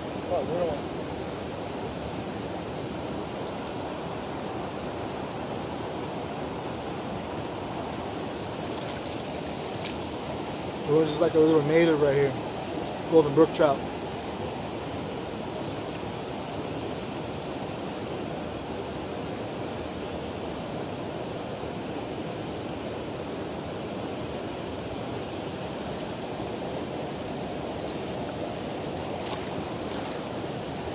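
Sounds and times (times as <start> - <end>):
river water over rocks: 0.0 - 30.9.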